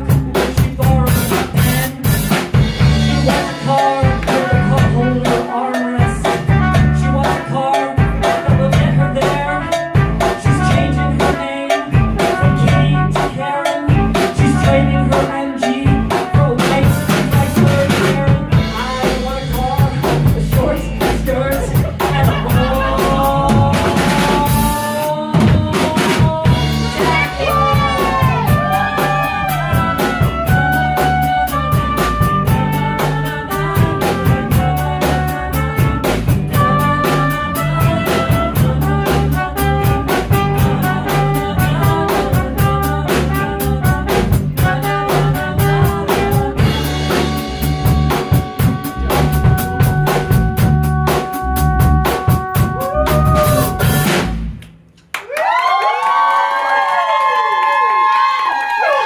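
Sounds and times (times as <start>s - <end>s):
fast drum beat: 0.0s - 54.5s
live band playing: 0.0s - 54.6s
held trumpet notes: 3.1s - 25.4s, 26.0s - 54.4s.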